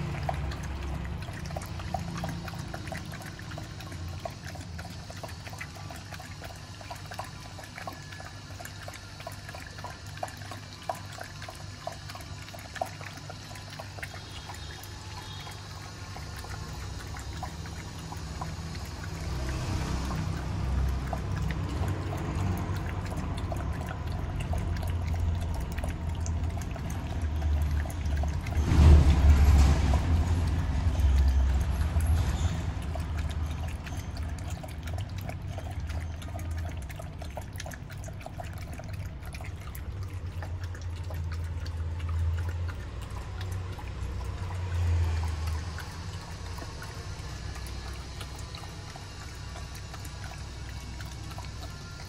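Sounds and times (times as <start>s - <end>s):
dogs lapping milk: 0.0s - 52.0s.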